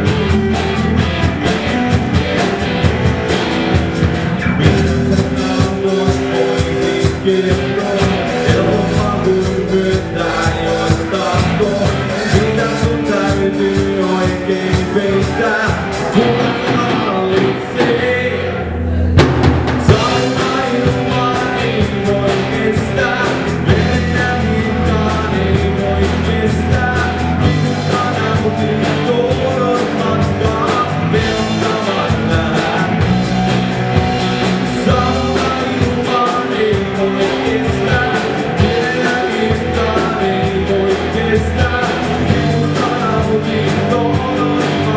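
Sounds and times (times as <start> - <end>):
person singing: 0.0 - 44.9
rock band playing live: 0.0 - 44.9.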